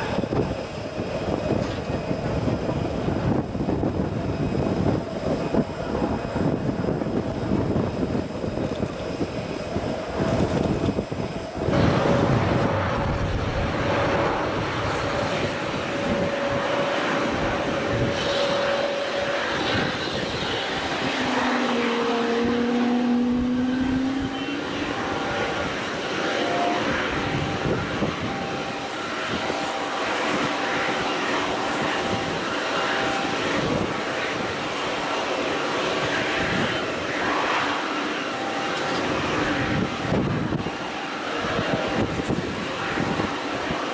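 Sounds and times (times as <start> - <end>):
jet engines taxiing: 0.0 - 43.9.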